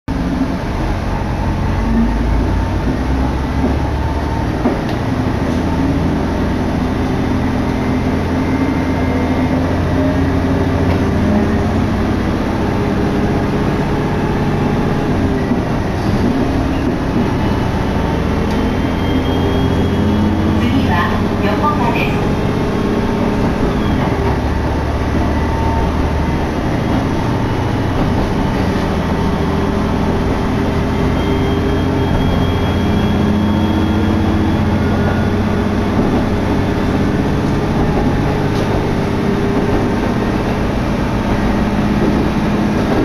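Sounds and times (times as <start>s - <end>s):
diesel railcar engine drone: 0.1s - 43.0s.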